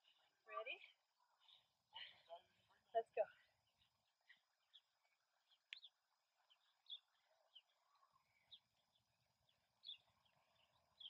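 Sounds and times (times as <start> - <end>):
faint songbird chirps: 0.0 - 11.0.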